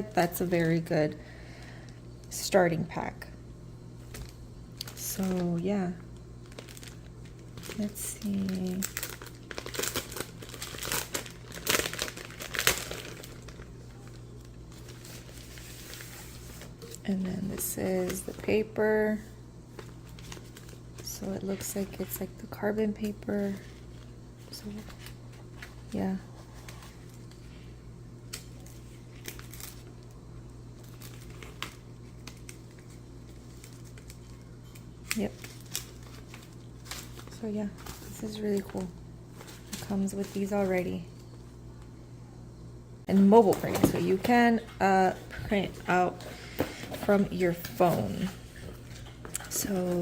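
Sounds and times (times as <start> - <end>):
steady low hum: 0.0 - 50.0
paper pack crinkling and rustling: 4.0 - 5.6, 6.2 - 18.7, 19.7 - 22.3, 22.9 - 27.7, 28.3 - 30.1, 30.8 - 41.3, 43.1 - 50.0.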